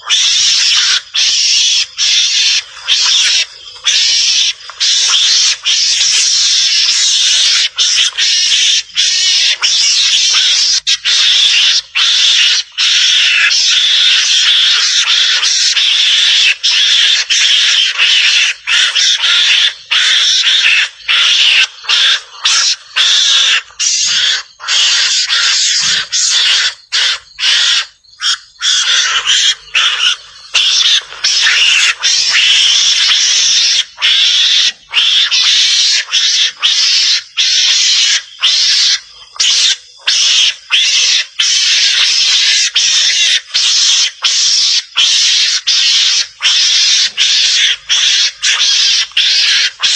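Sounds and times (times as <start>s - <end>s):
mongoose harsh rasping chatter: 0.0s - 49.9s.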